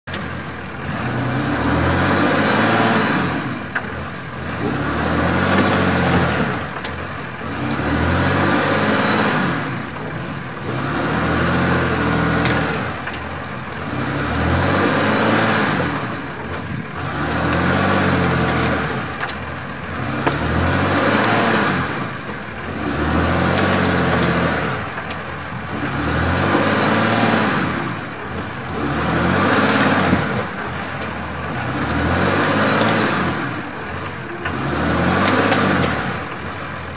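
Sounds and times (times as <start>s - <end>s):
truck engine revving: 0.0s - 36.9s
wheels spinning in mud: 0.1s - 36.9s.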